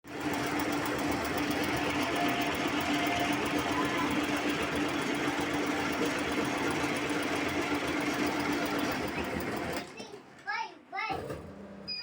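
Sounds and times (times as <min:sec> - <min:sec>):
sewing machine stitching: 0:00.1 - 0:10.1.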